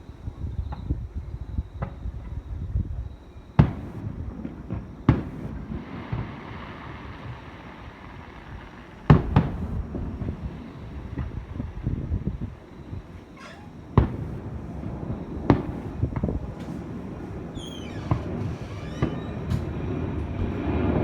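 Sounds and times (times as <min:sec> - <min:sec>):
firework crackling hiss: 0:03.6 - 0:21.0
firework shells bursting: 0:03.6 - 0:21.0.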